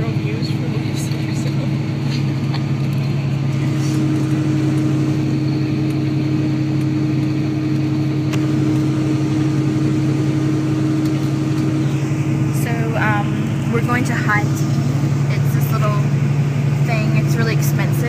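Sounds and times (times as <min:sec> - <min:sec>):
bus engine hum: 0:00.0 - 0:18.0
road noise: 0:00.0 - 0:18.0.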